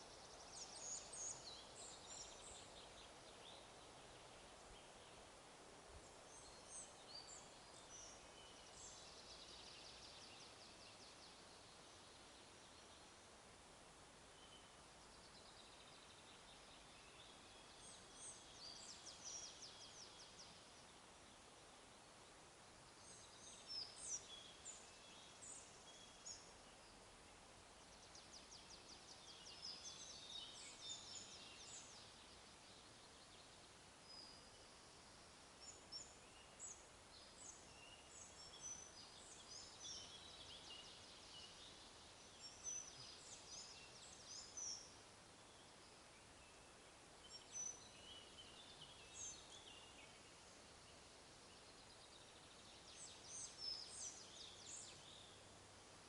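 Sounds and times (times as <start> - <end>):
faint songbirds singing: 0.0 - 56.0
faint steady hiss: 0.0 - 56.0.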